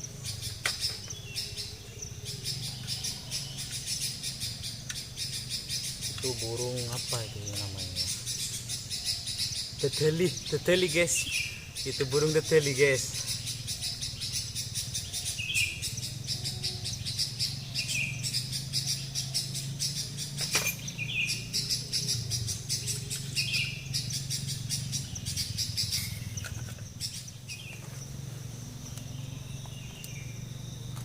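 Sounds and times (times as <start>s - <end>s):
rapid high buzzing of insects: 0.0s - 31.0s
steady low hum: 0.0s - 31.0s.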